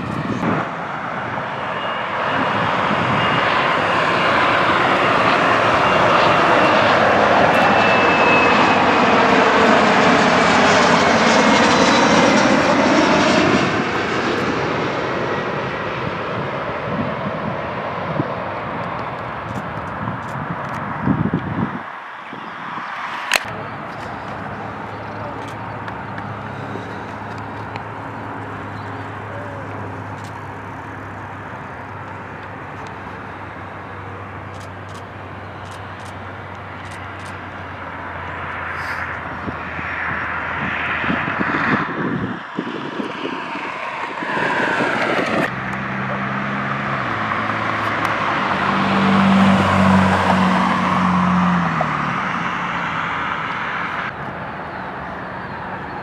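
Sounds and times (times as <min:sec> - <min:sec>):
jet passing with whoosh: 0:00.0 - 0:33.8, 0:35.2 - 0:55.8
aircraft engine drone: 0:00.0 - 0:56.0.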